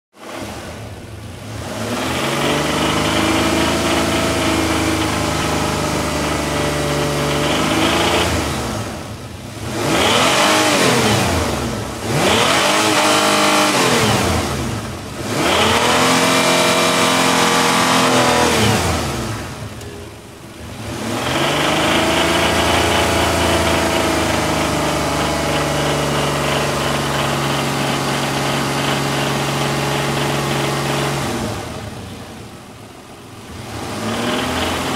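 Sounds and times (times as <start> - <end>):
engine idling and revving: 0.1 - 34.9.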